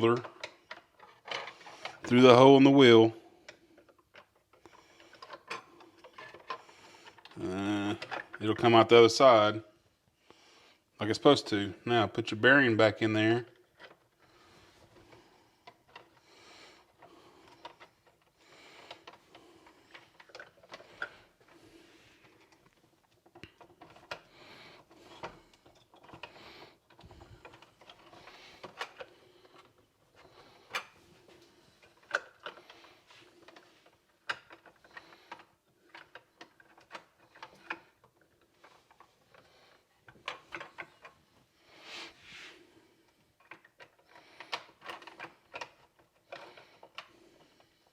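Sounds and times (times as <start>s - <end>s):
plastic parts clicking and rattling: 0.0s - 8.8s, 12.8s - 41.7s, 42.8s - 47.9s.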